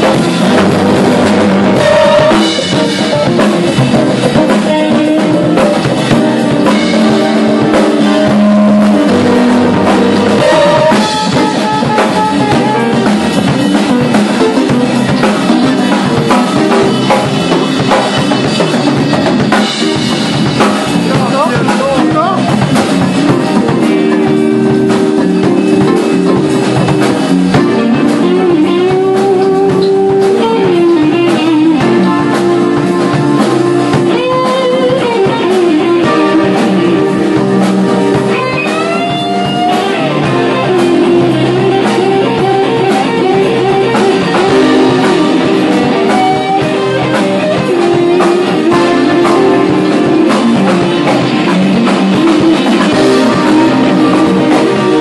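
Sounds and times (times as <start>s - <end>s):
blues-rock band playing: 0.0s - 55.0s
lead guitar with bent notes: 0.0s - 55.0s.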